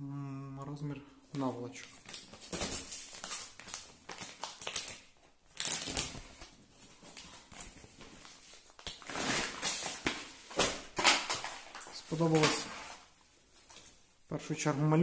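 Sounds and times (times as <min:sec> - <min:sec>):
plastic packaging crinkling: 0:01.8 - 0:14.2.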